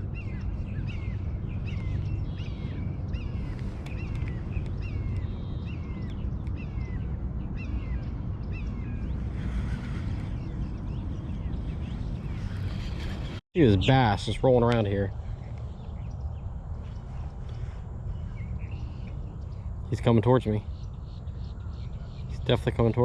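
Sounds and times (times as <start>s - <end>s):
bird chirping: 0.0s - 23.0s
wind rumble on microphone: 0.0s - 23.0s.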